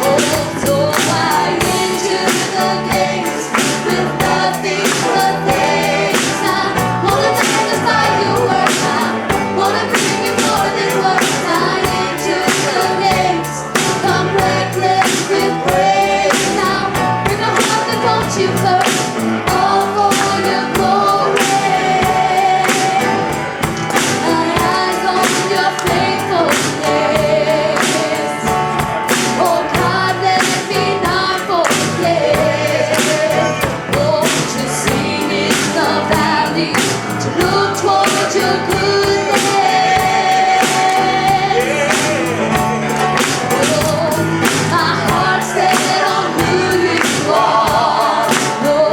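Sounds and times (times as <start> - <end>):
gospel singing: 0.0 - 48.9
steady drum beat: 0.0 - 48.9.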